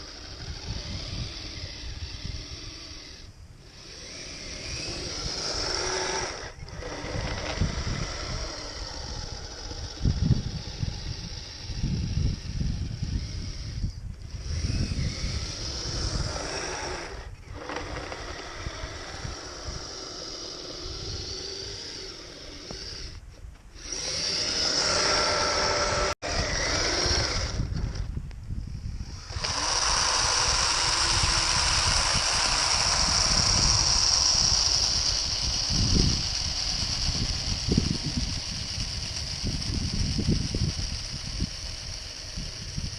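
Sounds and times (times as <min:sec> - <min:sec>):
electric motor and gearbox whine: 0:00.0 - 0:42.9.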